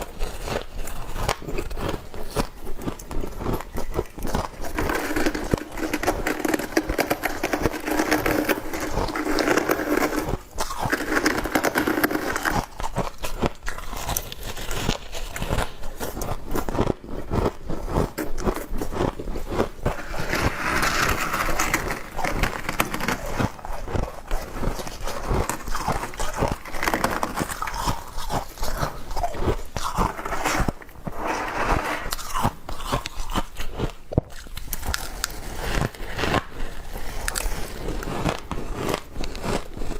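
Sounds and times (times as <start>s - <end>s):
crunching frost: 0.1s - 33.2s.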